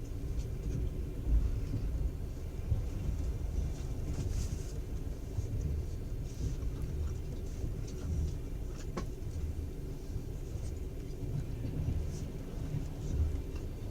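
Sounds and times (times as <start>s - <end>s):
train rumbling: 0.0s - 13.9s.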